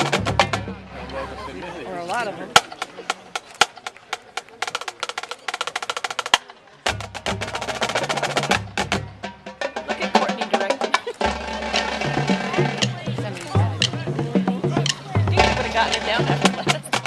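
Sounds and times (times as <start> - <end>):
drum strikes: 0.0 - 1.0, 2.6 - 17.0.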